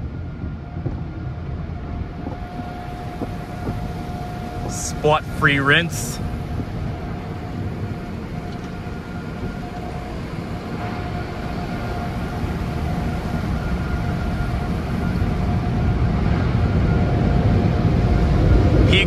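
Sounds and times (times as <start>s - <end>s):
car wash machine whine: 0.0s - 19.0s.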